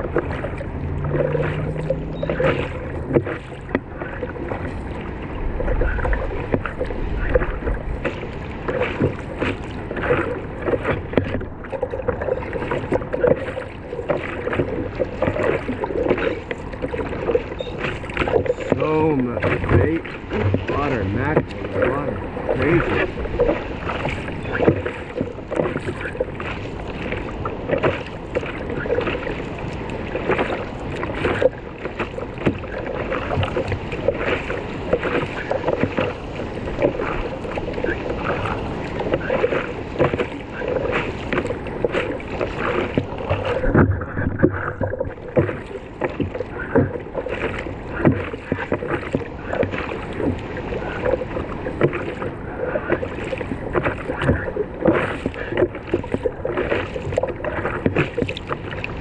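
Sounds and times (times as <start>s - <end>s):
water splashing around surfboard: 0.0s - 59.0s.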